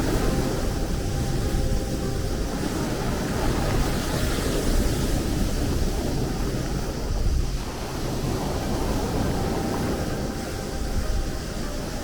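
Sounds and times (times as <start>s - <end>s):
waves rushing: 0.0s - 12.0s.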